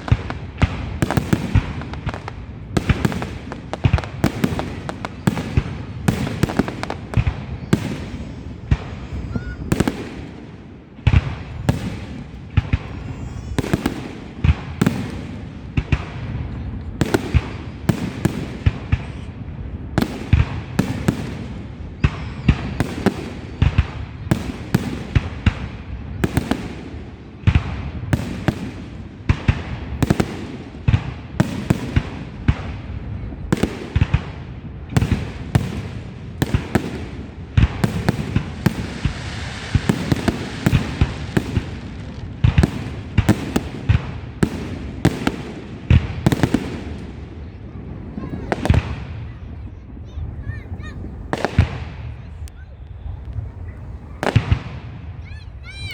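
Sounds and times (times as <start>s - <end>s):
fireworks bursting with sharp bangs: 0.0s - 55.9s
fireworks rumble and crackle: 0.0s - 55.9s.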